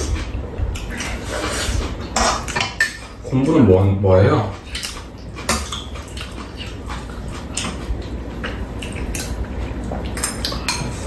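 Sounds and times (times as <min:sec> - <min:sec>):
person chewing: 0:00.0 - 0:03.3, 0:04.4 - 0:11.0.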